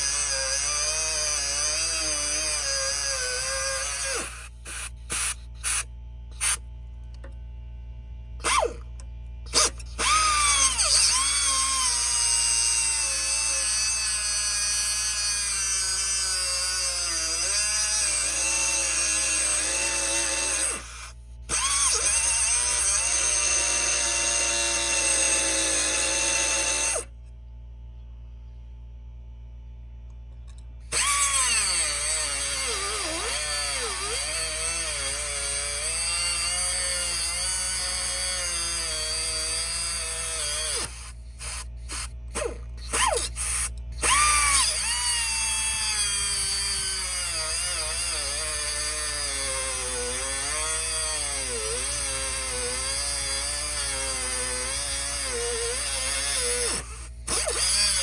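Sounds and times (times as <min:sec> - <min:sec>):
angle grinder cutting metal: 0:00.0 - 0:05.8, 0:09.5 - 0:27.1, 0:30.9 - 0:58.0.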